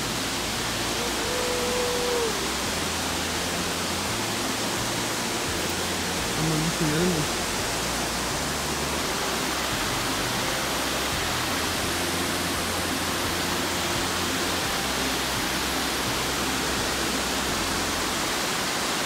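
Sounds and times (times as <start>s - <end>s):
waterfall and river rushing: 0.0s - 19.0s.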